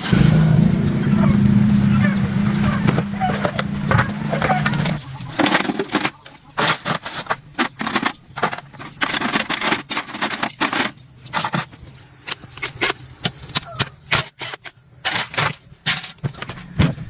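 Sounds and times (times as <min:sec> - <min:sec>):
metal tools clinking and knocking: 0:02.5 - 0:16.9.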